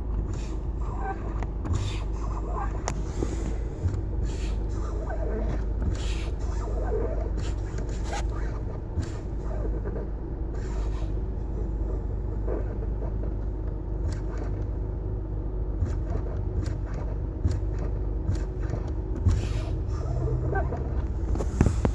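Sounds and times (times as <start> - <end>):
brakes scraping: 0.0 - 14.9, 15.8 - 21.9
car rumbling in motion: 0.0 - 21.9.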